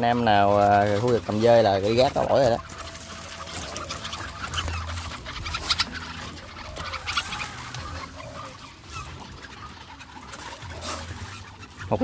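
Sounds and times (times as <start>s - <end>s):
caged birds calling and clucking: 0.0s - 12.0s.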